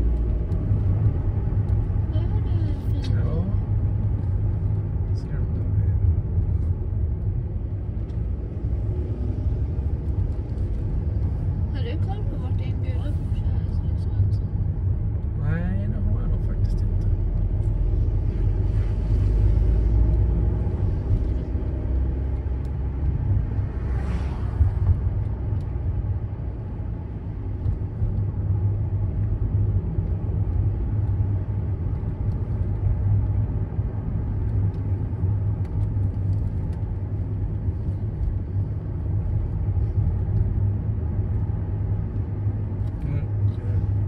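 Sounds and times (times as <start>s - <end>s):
engine and road rumble: 0.0s - 44.0s.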